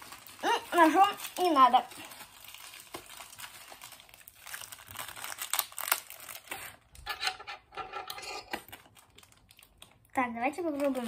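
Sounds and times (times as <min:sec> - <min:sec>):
plastic packaging crinkling: 0:00.0 - 0:07.1, 0:08.4 - 0:11.0.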